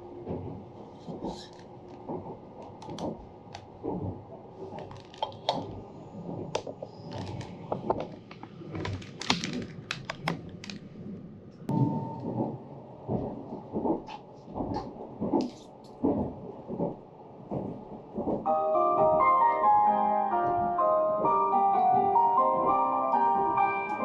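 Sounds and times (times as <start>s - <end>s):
train interior rumble: 0.0s - 24.0s.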